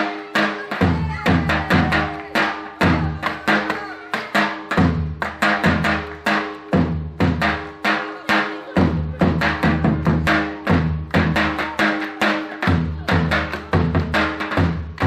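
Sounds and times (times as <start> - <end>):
heavy steady drum beat: 0.0 - 15.0.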